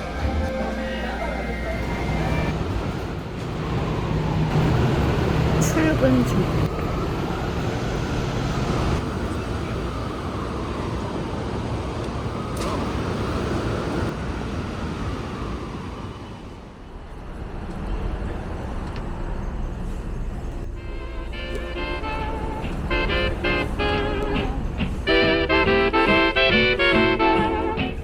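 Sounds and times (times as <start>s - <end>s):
passing vehicles: 0.0s - 28.0s.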